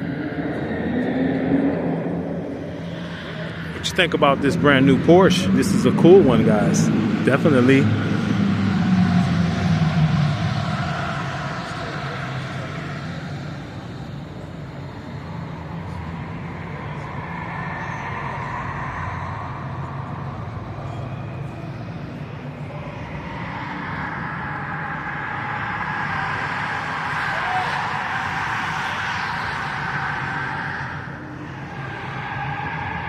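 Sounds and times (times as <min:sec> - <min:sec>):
indistinct voices: 0:00.0 - 0:33.0
low engine rumble: 0:00.0 - 0:33.0.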